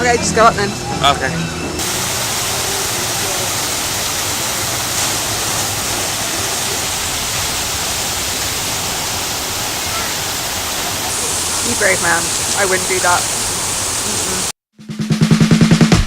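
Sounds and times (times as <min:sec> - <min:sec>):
falling water roar: 0:00.0 - 0:14.5.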